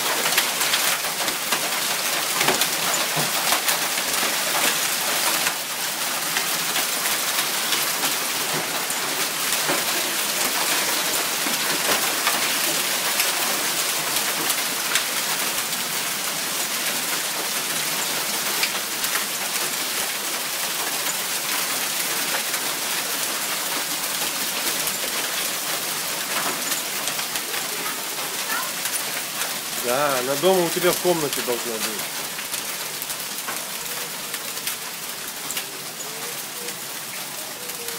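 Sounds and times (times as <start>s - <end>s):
hail pelting down: 0.0s - 37.9s.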